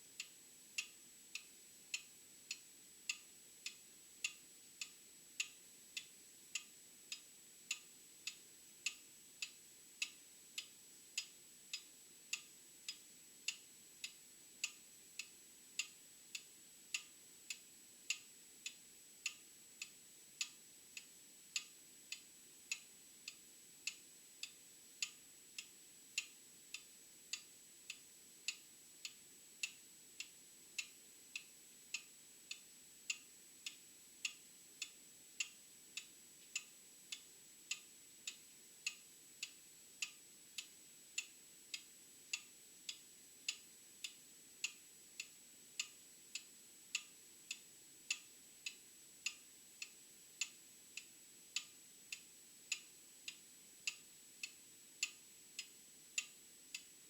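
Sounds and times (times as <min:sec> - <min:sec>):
mechanical clock ticking: 0:00.2 - 0:56.9.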